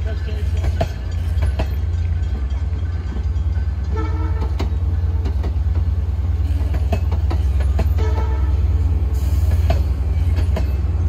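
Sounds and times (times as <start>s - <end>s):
train passing low rumble: 0.0s - 11.0s.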